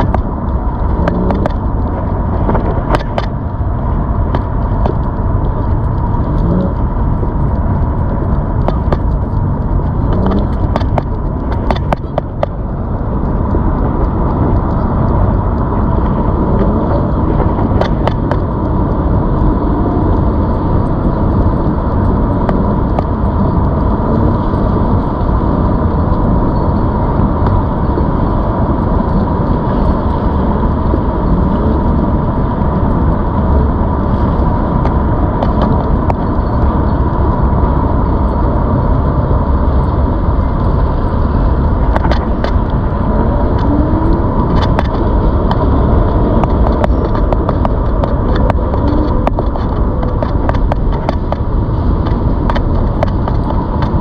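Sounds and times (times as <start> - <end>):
electric bike rumbling: 0.0 - 54.0
thin steady whine: 0.0 - 54.0.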